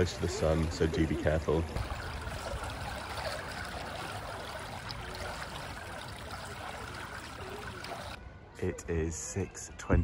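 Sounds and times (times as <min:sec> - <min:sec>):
pool water trickling and lapping: 0:00.0 - 0:10.0.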